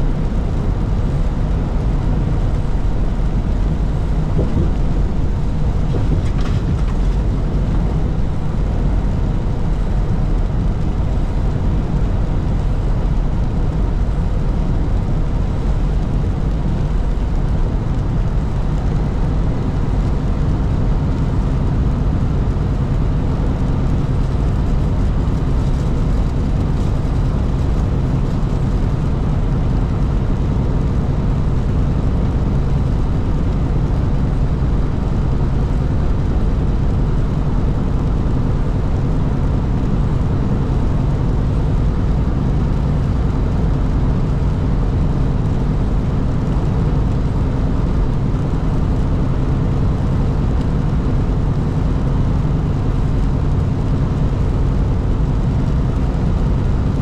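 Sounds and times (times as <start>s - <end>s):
truck cab engine and road drone: 0.0s - 57.0s.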